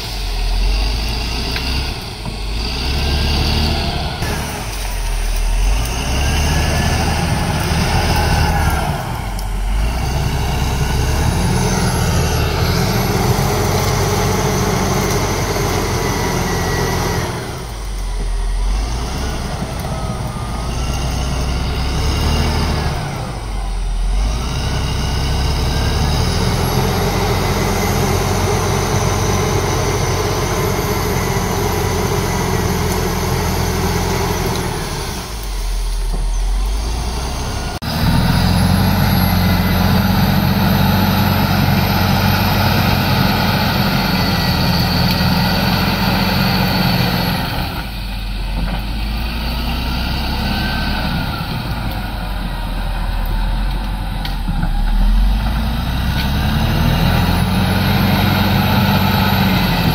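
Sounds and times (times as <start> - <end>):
dozer diesel engine running hard: 0.0 - 59.9.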